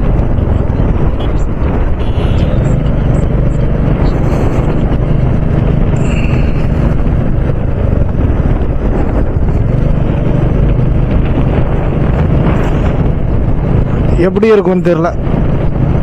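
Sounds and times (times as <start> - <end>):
motorcycle engine rumbling: 0.0 - 16.0
wind rushing over microphone: 0.0 - 16.0.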